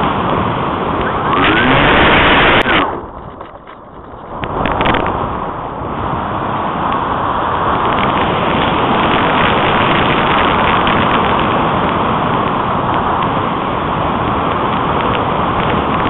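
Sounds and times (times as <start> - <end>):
airflow rushing over microphone: 0.0 - 16.0.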